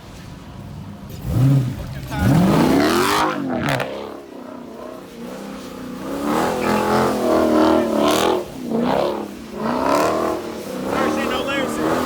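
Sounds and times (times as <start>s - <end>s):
car engine revving: 0.6s - 12.0s.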